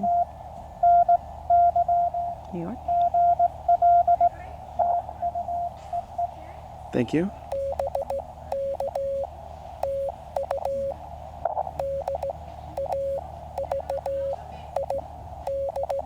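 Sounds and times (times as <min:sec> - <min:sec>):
morse code beeps: 0:00.0 - 0:06.3, 0:07.4 - 0:11.0, 0:11.8 - 0:16.0.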